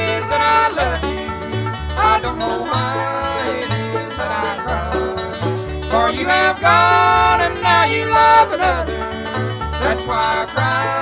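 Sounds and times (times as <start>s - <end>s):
banjo: 0.0s - 11.0s
guitar: 0.0s - 11.0s
mandolin: 0.0s - 11.0s
upright bass line: 0.0s - 11.0s.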